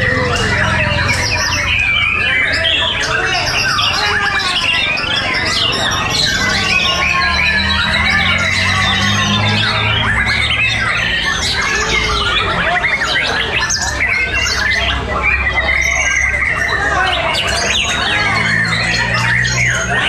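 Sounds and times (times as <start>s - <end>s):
many songbirds singing: 0.0s - 20.0s.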